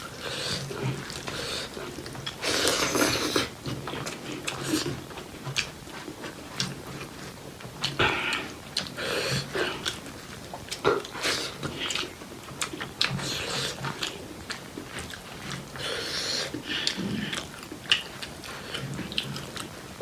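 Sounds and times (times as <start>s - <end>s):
wet slurping: 0.0s - 5.2s, 7.9s - 20.0s
wet chewing and lip smacks: 0.0s - 20.0s.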